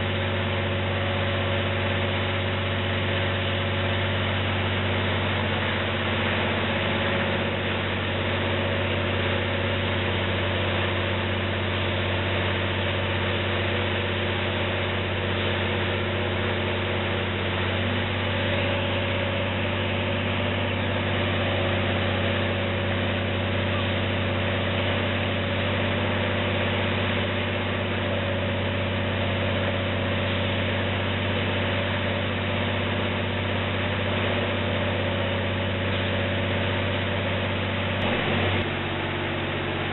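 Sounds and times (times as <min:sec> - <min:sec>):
diesel locomotive idling: 0:00.0 - 0:31.3, 0:34.8 - 0:39.9.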